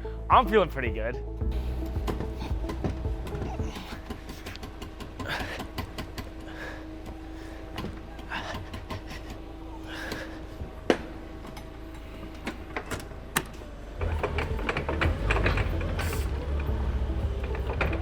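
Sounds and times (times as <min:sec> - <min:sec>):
machine rumbling and rattling: 0:01.4 - 0:18.0.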